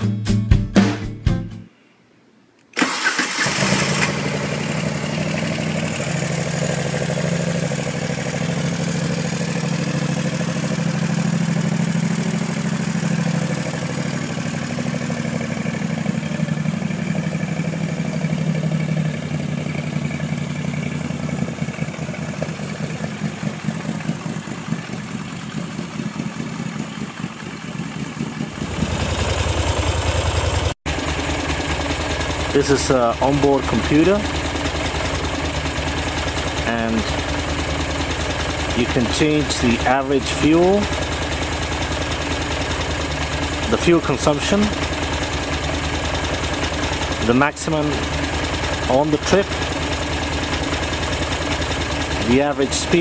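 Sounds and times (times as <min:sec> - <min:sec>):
motorcycle engine idling: 0:03.4 - 0:53.0.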